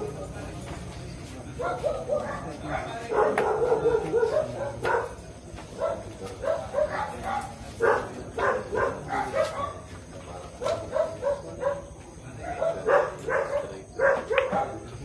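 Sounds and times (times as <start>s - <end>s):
dog barking and yipping: 1.6s - 9.9s, 10.6s - 14.8s.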